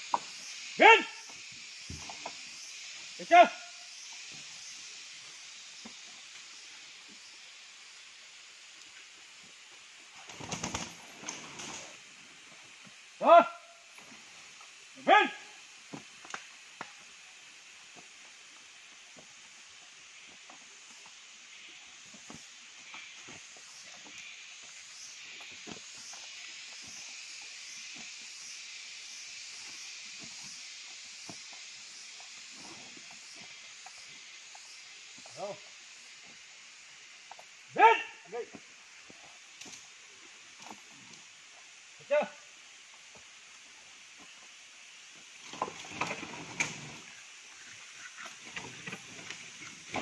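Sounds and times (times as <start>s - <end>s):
forest insects hissing: 0.0s - 50.0s.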